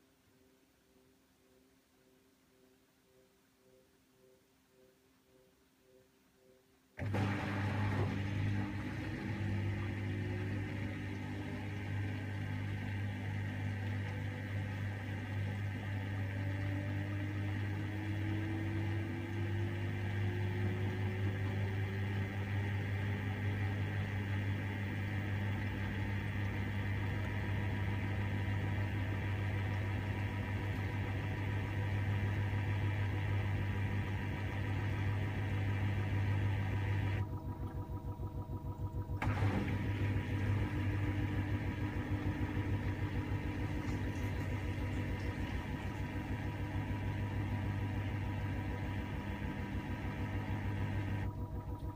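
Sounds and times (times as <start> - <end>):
faint rising whines: 7.0 - 51.9
washing machine spinning hum: 7.0 - 51.9.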